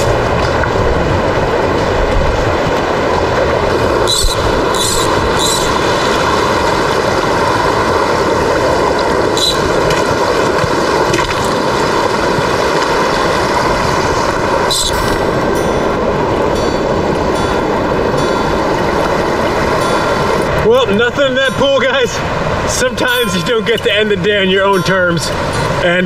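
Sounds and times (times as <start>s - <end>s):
stream rushing over cascades: 0.0s - 26.0s.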